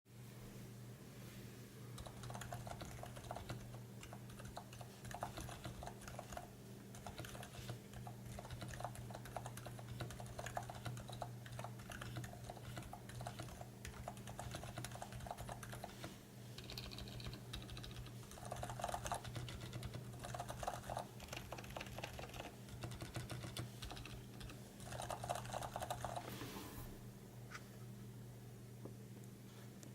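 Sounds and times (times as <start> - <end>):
typing on mechanical keyboard: 2.0 - 26.3.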